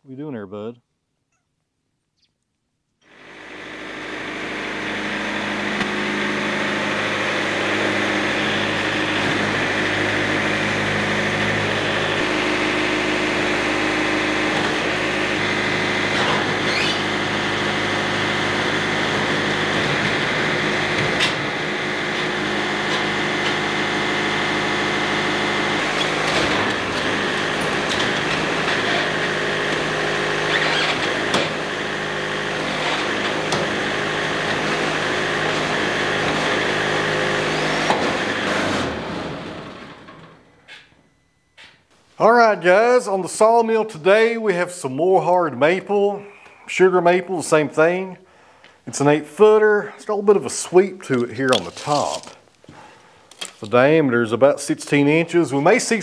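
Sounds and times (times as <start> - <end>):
sawmill engine running: 3.0 - 40.9, 42.2 - 56.0.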